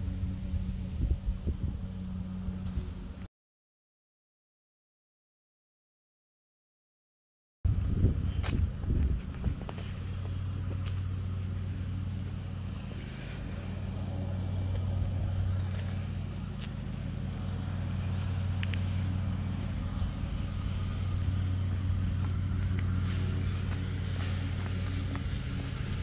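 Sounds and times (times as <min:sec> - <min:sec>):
low engine hum: 0:00.0 - 0:03.3, 0:07.7 - 0:26.0.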